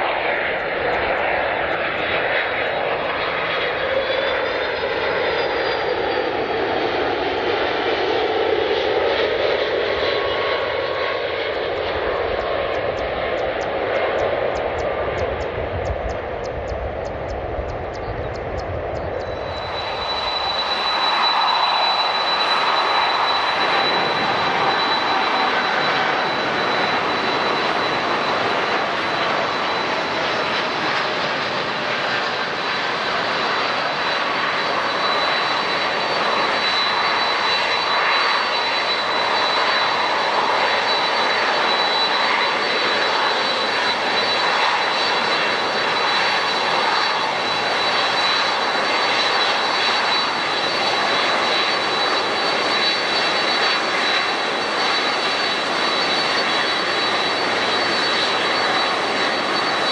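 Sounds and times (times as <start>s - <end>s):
high engine whine: 0.0s - 59.9s
jet engines rushing: 0.0s - 59.9s.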